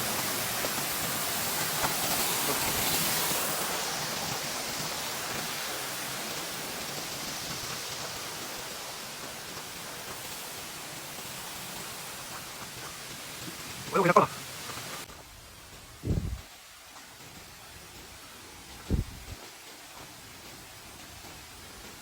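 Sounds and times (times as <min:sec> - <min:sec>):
waterfall rushing water: 0:00.0 - 0:22.0.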